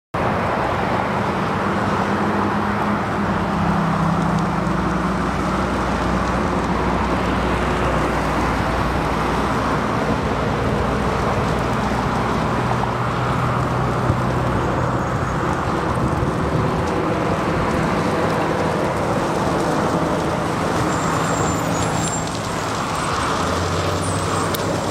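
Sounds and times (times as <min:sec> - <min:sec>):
continuous rumble: 0:00.2 - 0:24.9
steady engine noise: 0:00.2 - 0:24.9.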